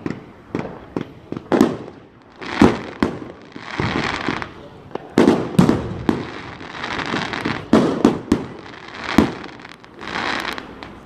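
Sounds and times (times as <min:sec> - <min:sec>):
fireworks bangs: 0:00.0 - 0:11.0
hissing crackle of fireworks: 0:00.0 - 0:11.0.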